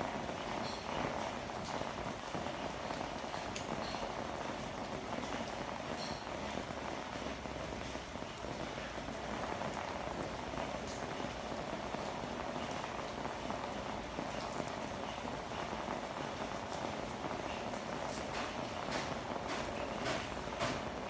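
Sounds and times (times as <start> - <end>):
rain on hard surfaces: 0.0 - 21.0
ticks of raindrops: 0.0 - 21.0.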